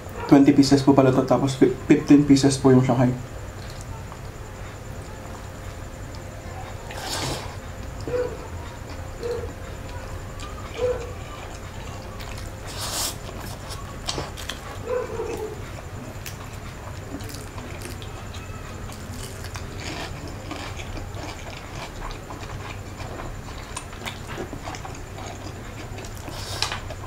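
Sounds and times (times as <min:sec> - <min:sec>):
man chewing: 0:03.5 - 0:27.0.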